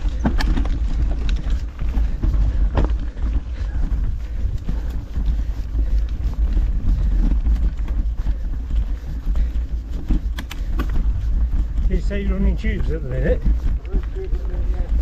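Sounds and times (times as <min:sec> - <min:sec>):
bike knocks and rattles: 0:00.0 - 0:14.6
wind buffeting microphone: 0:00.0 - 0:15.0.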